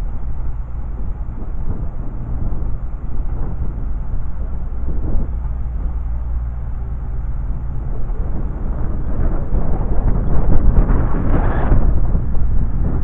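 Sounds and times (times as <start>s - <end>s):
diesel train rumbling: 0.0s - 13.0s
wind buffeting microphone: 0.0s - 13.0s.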